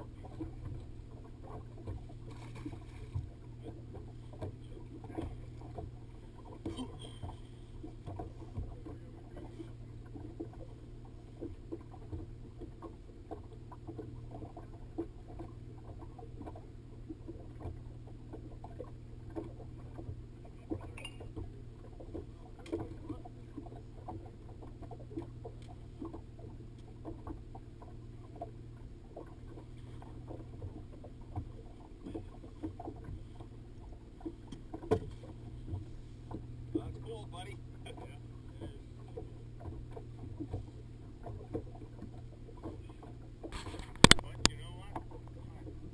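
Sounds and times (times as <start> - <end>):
outboard motor humming: 0.0 - 45.9
waves slapping against hull: 0.0 - 45.9.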